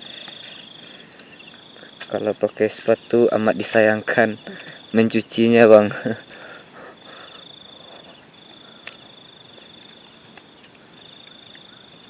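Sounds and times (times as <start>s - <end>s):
high pulsing insect chirp: 0.0s - 12.0s
insects buzzing: 0.0s - 12.0s.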